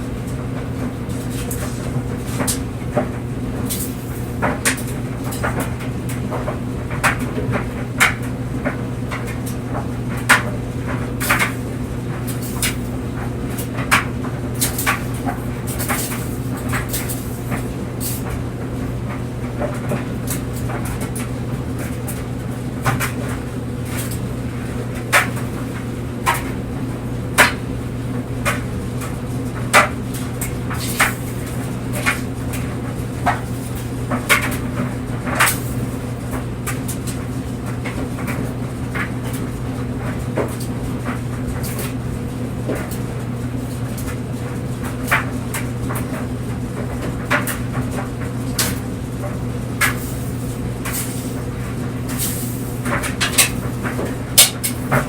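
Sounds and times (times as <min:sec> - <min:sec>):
clothes dryer humming: 0:00.0 - 0:55.0.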